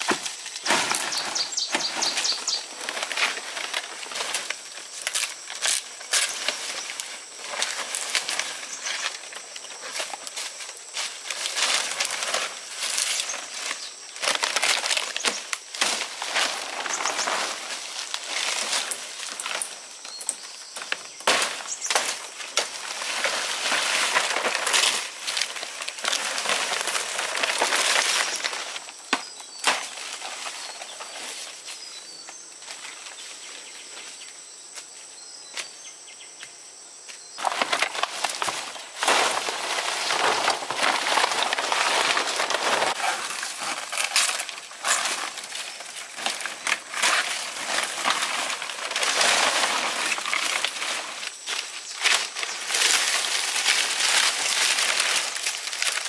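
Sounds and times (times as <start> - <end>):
branches rustling and crackling: 0.0 - 35.9, 37.2 - 56.0.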